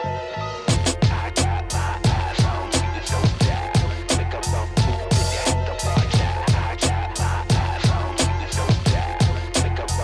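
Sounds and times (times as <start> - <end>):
music with heavy drum beat: 0.7 - 10.0.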